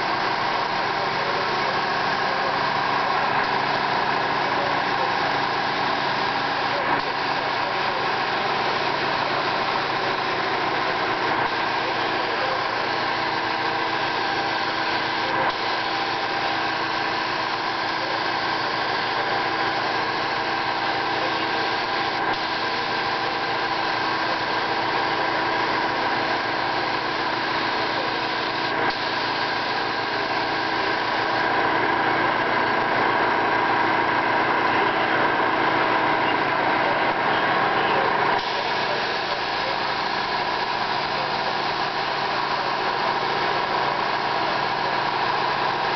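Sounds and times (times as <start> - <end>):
spray gun hissing: 0.0 - 31.4, 38.4 - 45.9
machine hum with steady tones: 0.0 - 45.9.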